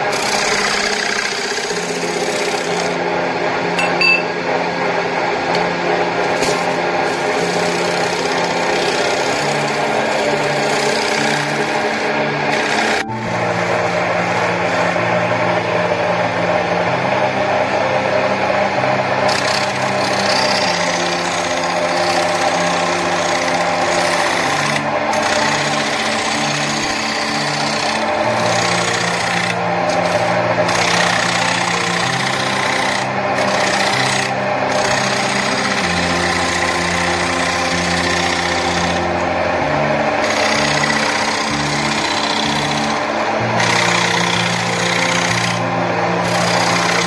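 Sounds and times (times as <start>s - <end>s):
lathe tool cutting wood: 0.0s - 47.0s.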